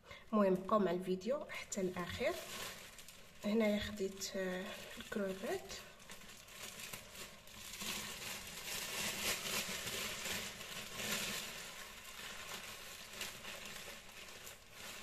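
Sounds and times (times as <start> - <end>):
plastic bags rustling: 0.4 - 15.0.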